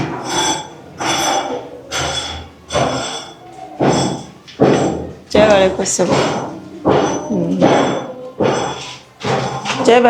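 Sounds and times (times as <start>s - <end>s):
hammer blows ringing: 0.0s - 10.0s.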